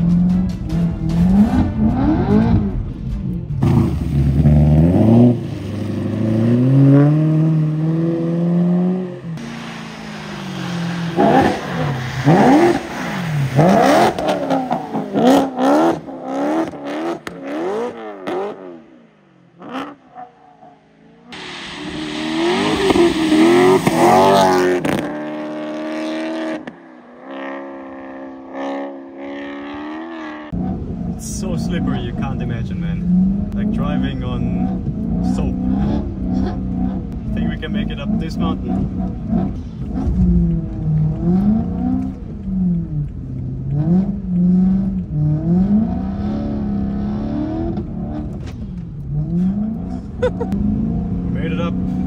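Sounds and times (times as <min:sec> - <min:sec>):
car engine revving: 0:00.0 - 0:20.4, 0:21.0 - 0:52.0.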